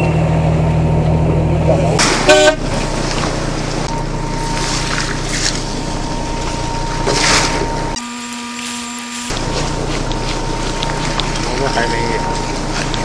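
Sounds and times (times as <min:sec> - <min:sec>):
boat engine running: 0:00.0 - 0:13.0
wind: 0:00.0 - 0:13.0
rushing water: 0:00.2 - 0:07.8, 0:09.3 - 0:13.0.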